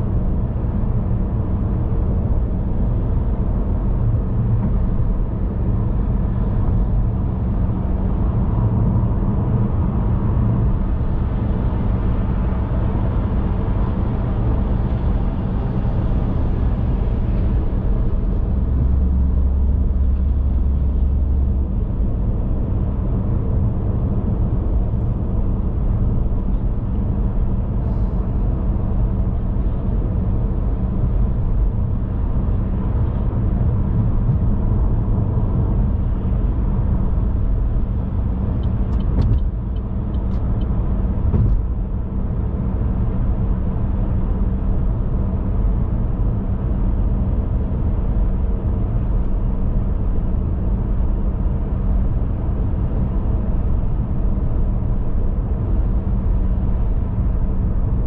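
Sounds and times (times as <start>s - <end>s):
car road and engine drone: 0.0s - 58.0s.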